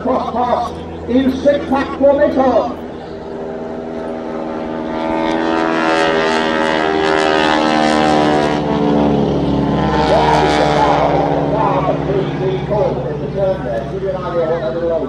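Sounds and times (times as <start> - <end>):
biplane propeller drone: 0.0 - 15.0.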